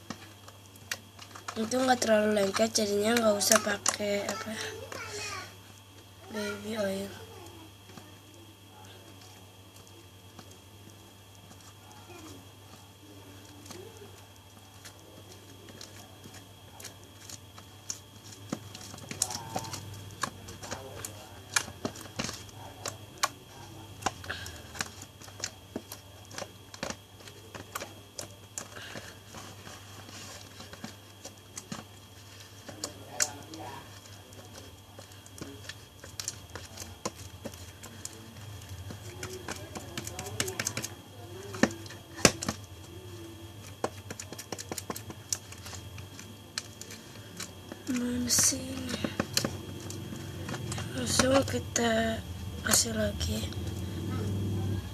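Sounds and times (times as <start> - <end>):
slime kneaded by hand: 0.0 - 54.9.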